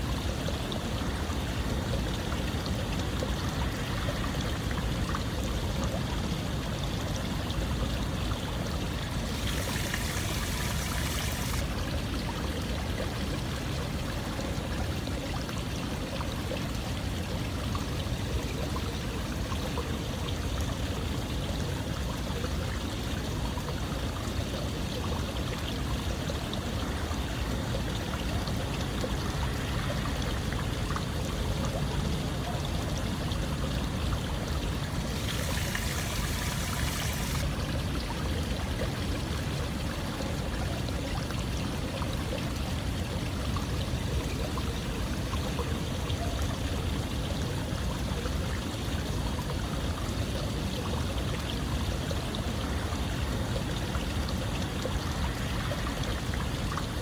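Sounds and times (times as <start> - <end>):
stream water rushing and trickling: 0.0 - 57.0.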